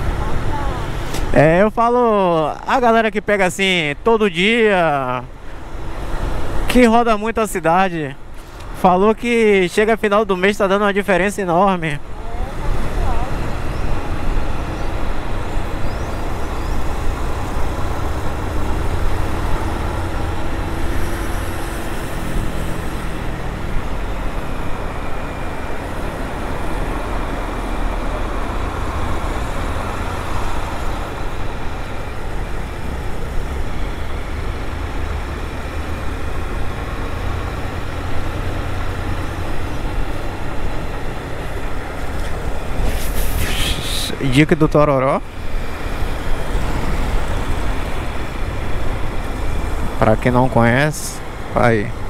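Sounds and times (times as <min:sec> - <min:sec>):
road noise: 0:00.0 - 0:52.0.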